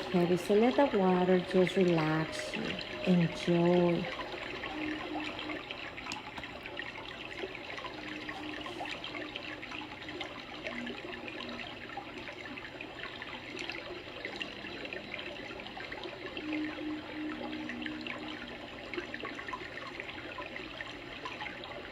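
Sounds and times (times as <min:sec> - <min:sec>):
water trickling: 0:00.0 - 0:21.9.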